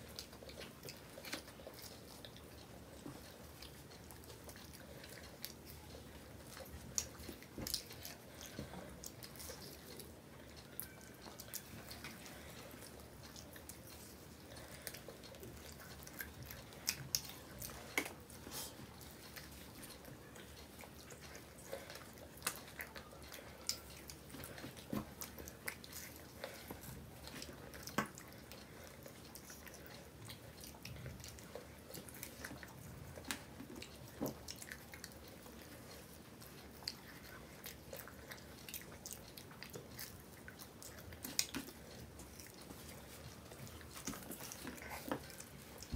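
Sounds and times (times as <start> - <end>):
people chewing food: 0.0 - 45.9.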